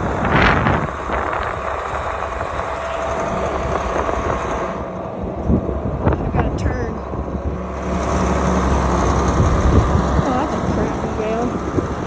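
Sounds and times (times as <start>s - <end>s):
rolling road noise: 0.0s - 12.0s
vehicle engine running: 0.0s - 12.0s.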